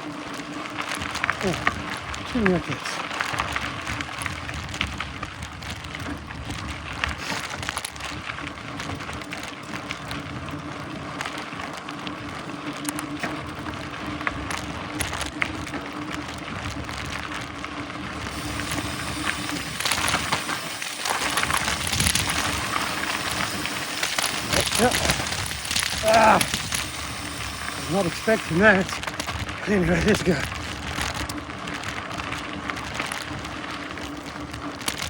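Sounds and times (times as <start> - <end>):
bike rattles and clicks: 0.0 - 35.0
bike tyres rolling on dirt: 0.0 - 35.0.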